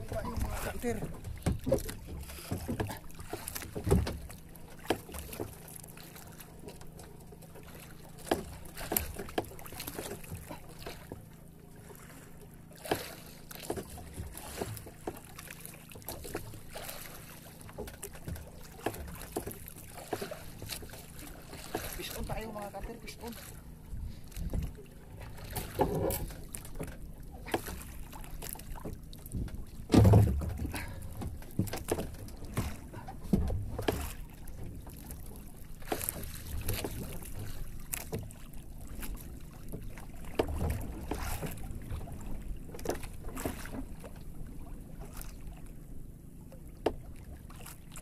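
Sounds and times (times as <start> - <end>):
sea washing: 0.0 - 45.8
knocks and thumps on a boat: 0.0 - 48.0
wind: 0.0 - 48.0.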